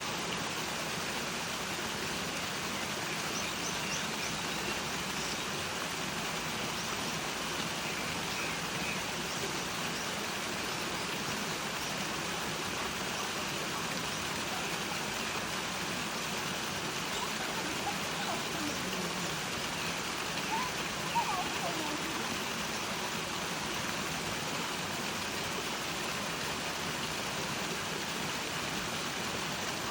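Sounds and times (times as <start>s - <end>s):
mountain stream rushing: 0.0s - 29.9s.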